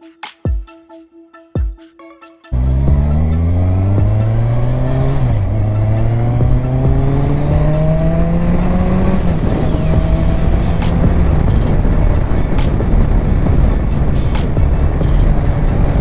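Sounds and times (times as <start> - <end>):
motorcycle engine accelerating: 2.6 - 16.0.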